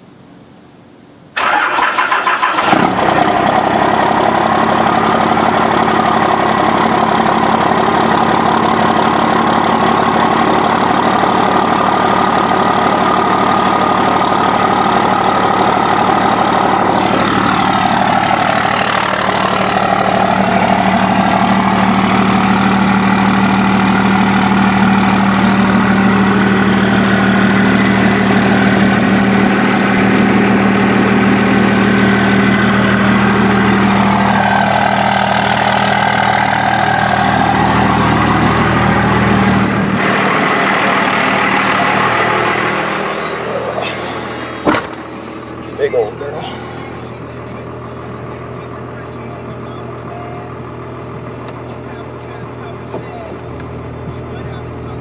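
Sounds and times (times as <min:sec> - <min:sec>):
diesel engine cranking: 0:01.4 - 0:55.0
diesel engine idling: 0:01.4 - 0:55.0.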